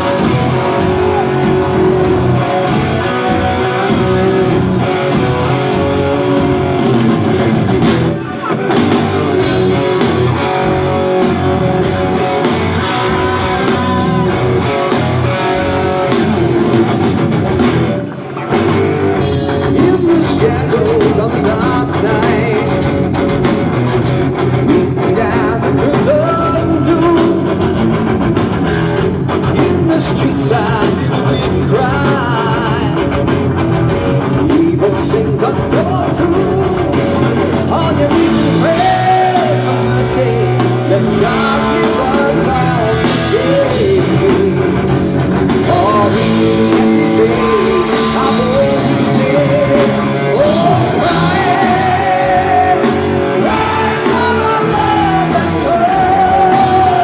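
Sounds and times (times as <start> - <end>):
person singing: 0.0 - 16.4, 18.5 - 23.1, 24.6 - 27.9, 29.4 - 33.3, 34.3 - 57.0
drum kit: 0.0 - 57.0
electric guitar: 0.0 - 57.0
live rock band playing: 0.0 - 57.0.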